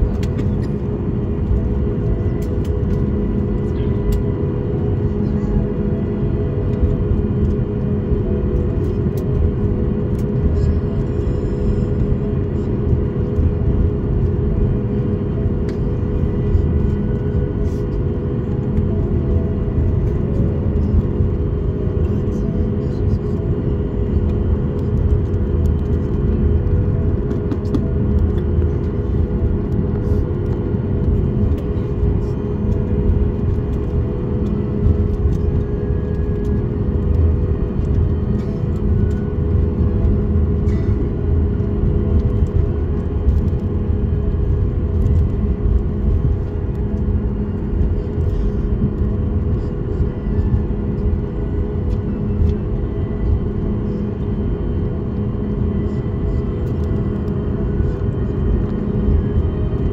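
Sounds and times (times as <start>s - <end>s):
aircraft rolling rumble: 0.0s - 59.9s
jet engines humming: 0.0s - 59.9s.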